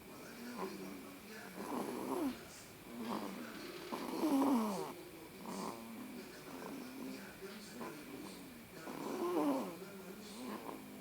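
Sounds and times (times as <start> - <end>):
baby snoring: 0.4 - 11.0.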